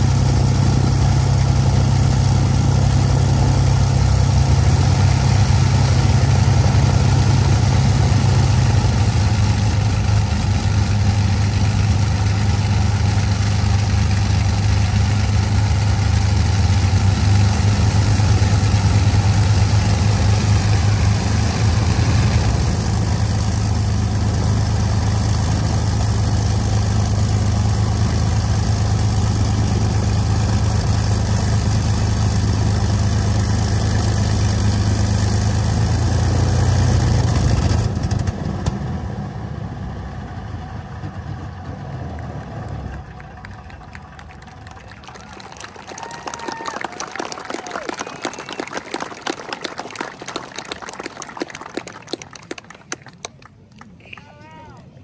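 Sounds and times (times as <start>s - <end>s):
aircraft engines droning: 0.0s - 54.2s.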